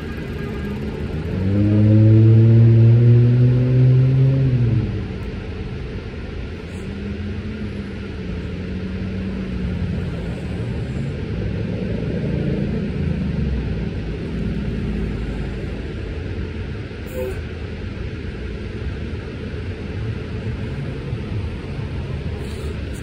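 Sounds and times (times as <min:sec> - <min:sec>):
passing vehicles: 0:00.0 - 0:23.0.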